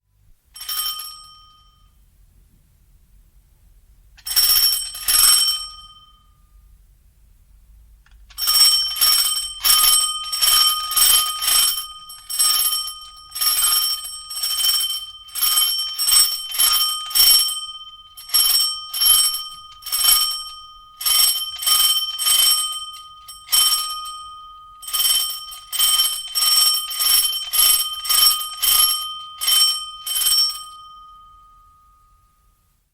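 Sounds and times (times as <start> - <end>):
mechanical bell ringing: 4.2 - 6.4, 8.3 - 32.7.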